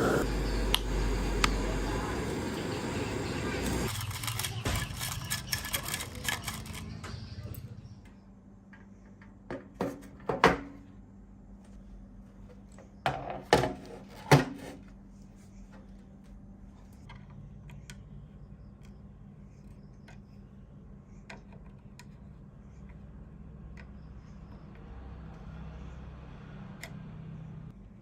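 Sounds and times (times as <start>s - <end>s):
faint hum: 0.0s - 13.2s, 14.7s - 28.0s.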